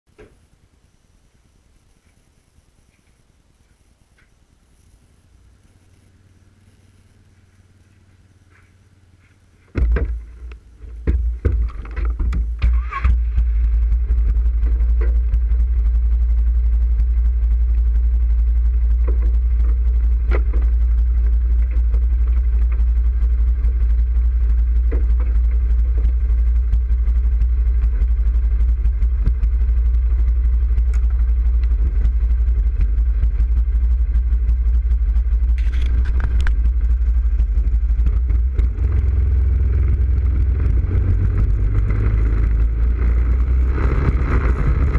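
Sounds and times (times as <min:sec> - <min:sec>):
atv engine idling: 0:04.1 - 0:44.9
second atv engine: 0:04.8 - 0:44.9.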